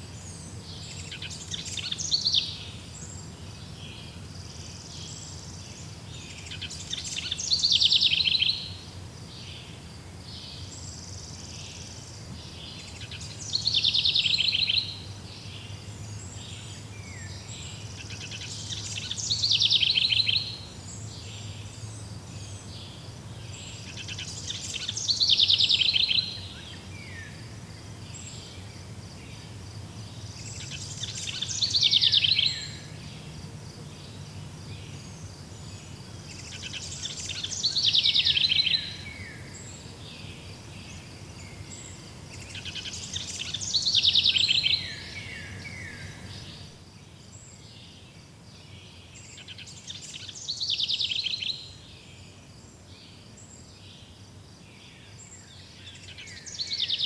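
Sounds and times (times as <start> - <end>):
insect chorus chirping: 0.0 - 57.0
songbird trilling song: 0.0 - 57.0.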